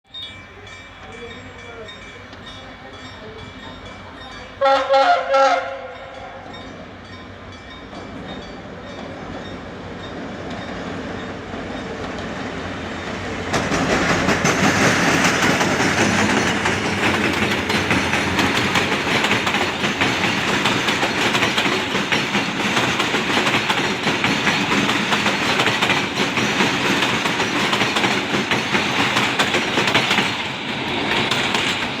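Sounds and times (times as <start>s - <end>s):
train wheels clattering on rails: 6.1s - 32.0s.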